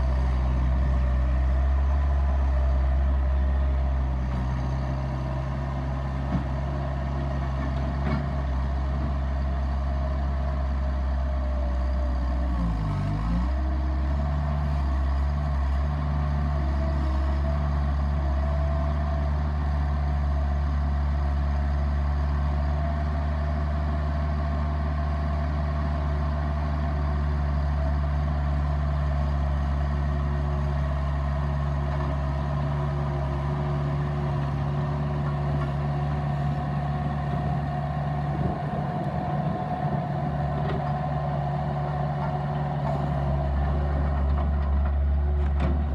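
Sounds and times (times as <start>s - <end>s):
diesel engine running steadily: 0.0s - 45.9s.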